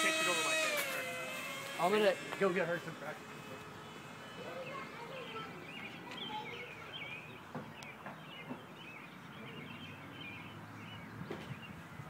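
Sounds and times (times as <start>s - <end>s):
outdoor background noise: 0.0s - 12.0s
songbirds chirping: 2.3s - 12.0s.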